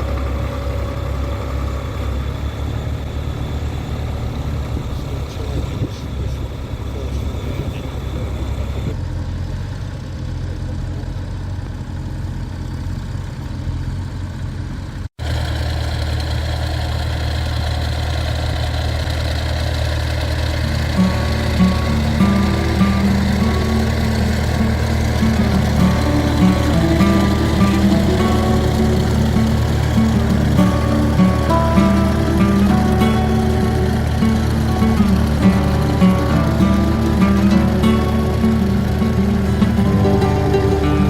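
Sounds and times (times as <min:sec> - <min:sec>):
tractor engine droning: 0:00.0 - 0:41.0.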